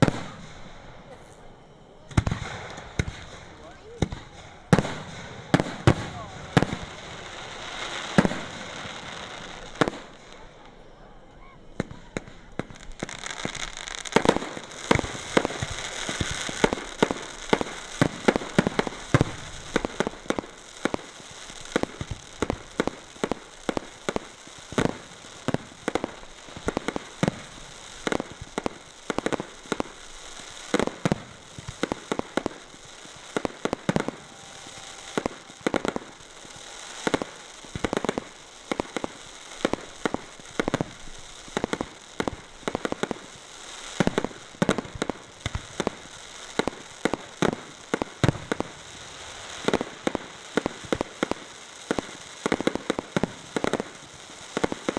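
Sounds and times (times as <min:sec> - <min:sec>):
firework crackling hiss: 0:00.0 - 0:54.9.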